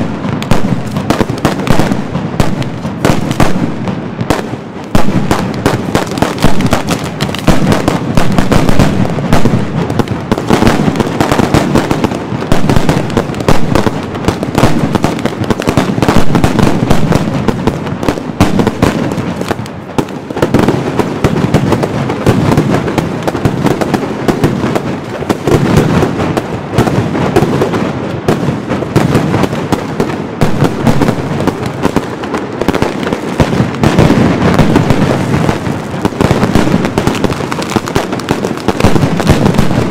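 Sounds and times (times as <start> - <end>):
firecracker barrage: 0.0 - 39.9.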